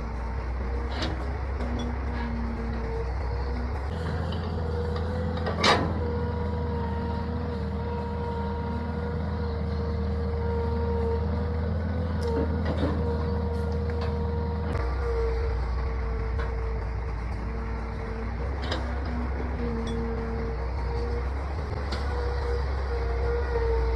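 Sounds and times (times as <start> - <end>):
excavator diesel engine running: 0.0 - 23.9
held whine: 0.0 - 23.9.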